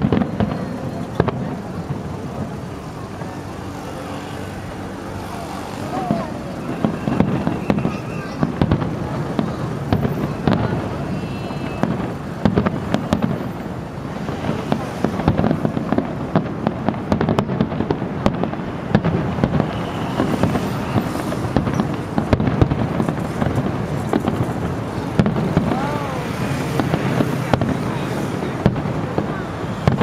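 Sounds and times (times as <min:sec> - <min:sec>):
fireworks cracks and bangs: 0:00.0 - 0:30.0.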